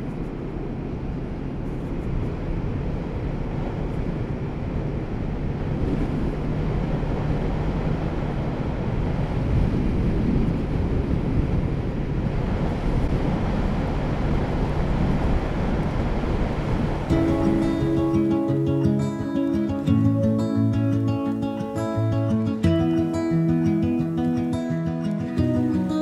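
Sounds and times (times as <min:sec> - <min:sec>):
motorcycle engine cruising: 0:00.0 - 0:26.0
wind rushing over microphone: 0:00.0 - 0:26.0.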